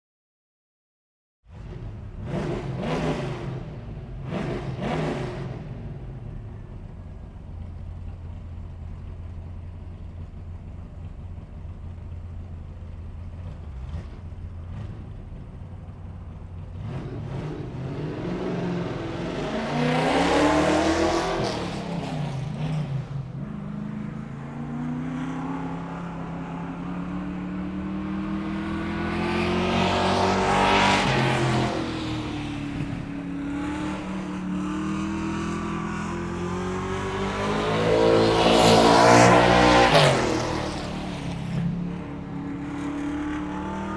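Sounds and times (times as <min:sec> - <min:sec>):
car engine idling and revving: 0:01.5 - 0:43.9.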